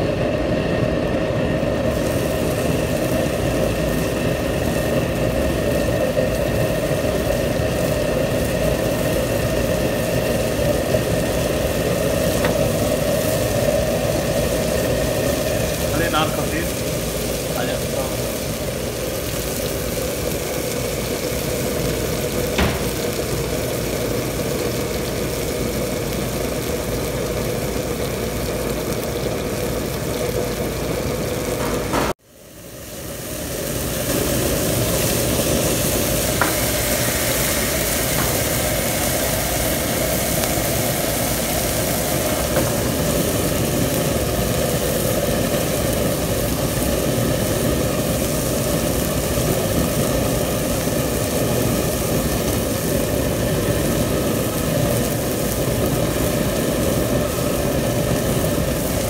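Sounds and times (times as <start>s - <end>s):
fish frying in oil: 0.0s - 59.0s
gas range hum and hiss: 0.0s - 59.0s.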